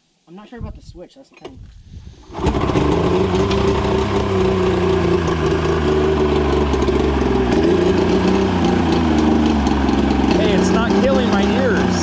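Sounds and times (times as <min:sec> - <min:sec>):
snowmobile engine idling: 0:02.4 - 0:12.0.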